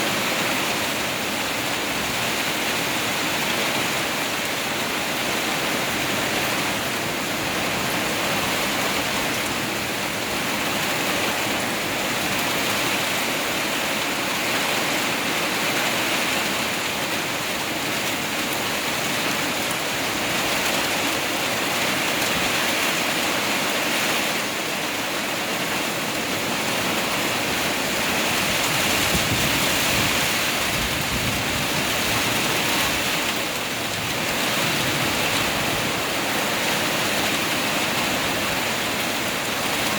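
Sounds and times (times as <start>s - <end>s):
heavy rain pouring: 0.0s - 39.9s
strong wind: 0.0s - 39.9s.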